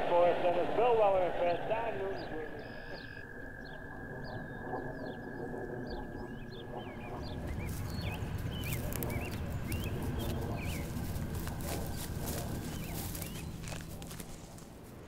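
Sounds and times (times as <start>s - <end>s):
low rumble: 0.0s - 14.9s
birds chirping: 0.0s - 15.0s.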